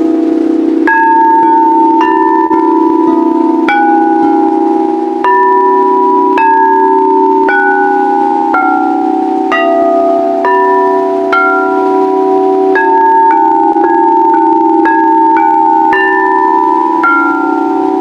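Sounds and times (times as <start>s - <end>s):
singing bowls ringing: 0.0s - 18.0s
steady low drone: 0.0s - 18.0s.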